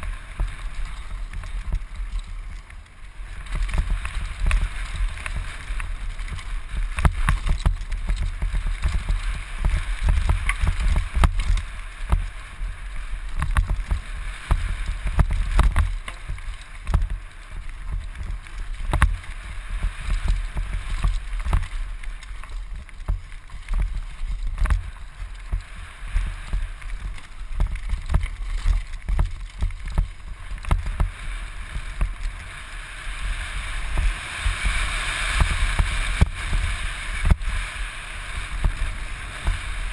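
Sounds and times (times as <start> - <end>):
bike knocking and rattling: 0.0 - 39.9
bike tyre noise on dirt: 0.0 - 39.9
wind buffeting microphone: 0.0 - 39.9.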